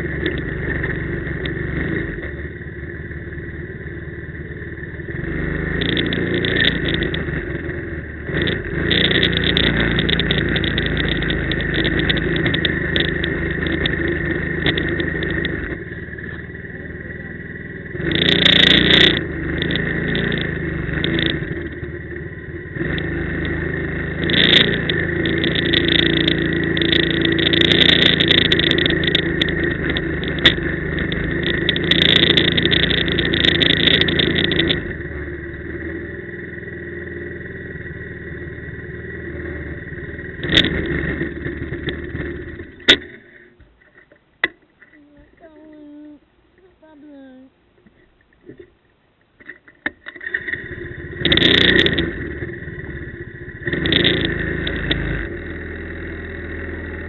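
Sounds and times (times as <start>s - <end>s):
quad bike engine revving: 0.0s - 43.6s, 49.9s - 57.0s.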